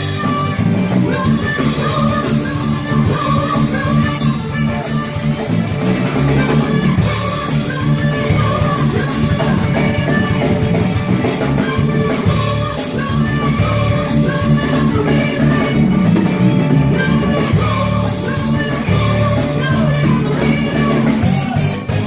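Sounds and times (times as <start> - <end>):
women singing: 0.0 - 21.6
drum kit: 0.0 - 22.0
electric guitar: 0.0 - 22.0.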